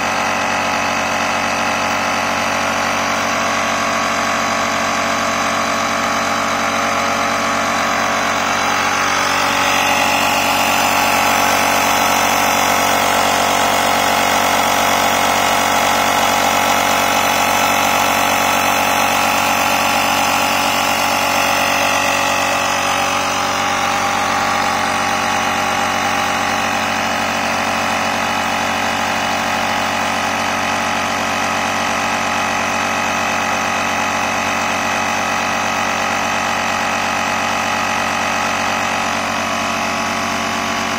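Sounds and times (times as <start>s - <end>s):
small air compressor running: 0.0s - 40.9s.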